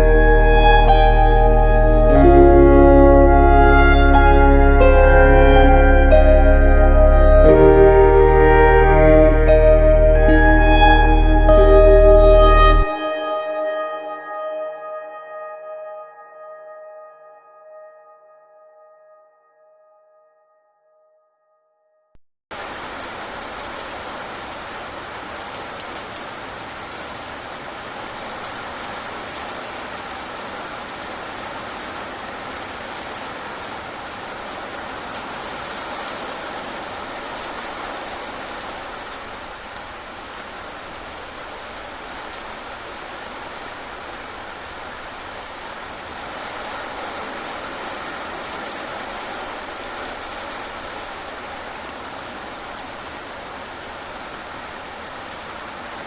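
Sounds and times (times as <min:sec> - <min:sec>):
rain falling: 0:00.0 - 0:12.9, 0:22.5 - 0:56.0.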